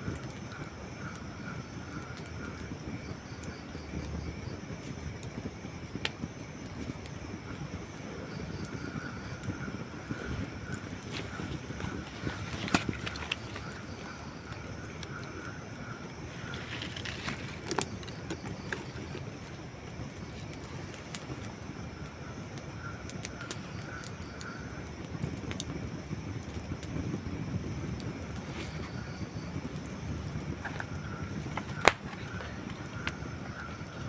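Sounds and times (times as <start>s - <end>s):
burning logs crackling and popping: 0.0s - 34.0s
rush of fire flames: 0.0s - 34.0s.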